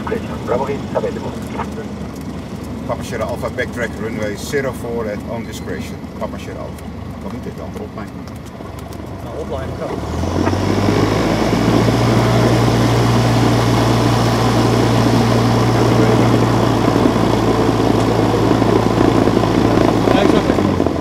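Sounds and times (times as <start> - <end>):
propeller plane engine running: 0.0 - 21.0.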